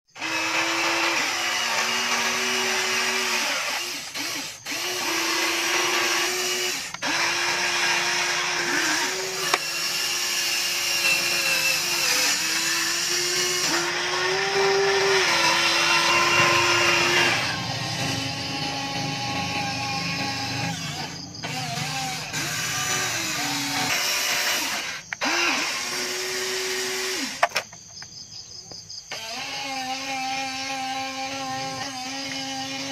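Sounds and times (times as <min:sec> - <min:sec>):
electric motors whining: 0:00.1 - 0:27.7, 0:29.1 - 0:32.9.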